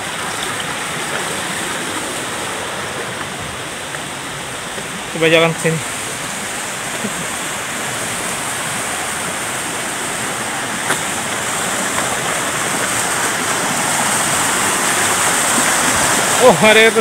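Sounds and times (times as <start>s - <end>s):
stream water rushing over boulders: 0.0s - 17.0s.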